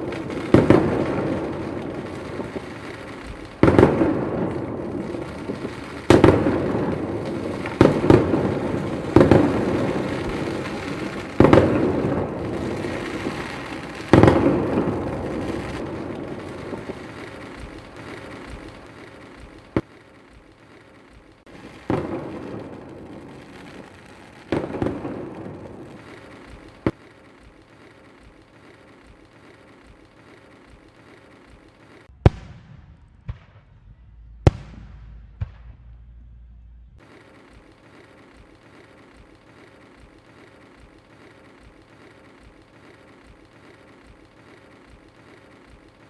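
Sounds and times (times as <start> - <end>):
sharp firework cracks: 0.0 - 36.1, 37.0 - 46.0
firework booms with rolling echo: 0.0 - 36.4, 37.0 - 46.0.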